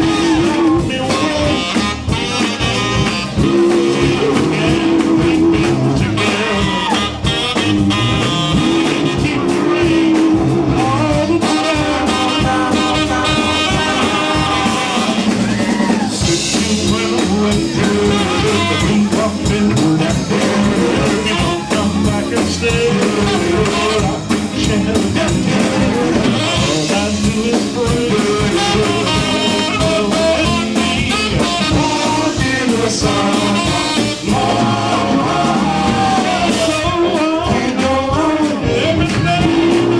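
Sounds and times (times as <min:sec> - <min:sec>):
backing band with drums: 0:00.0 - 0:39.9
vocal group singing distorted: 0:00.0 - 0:39.9.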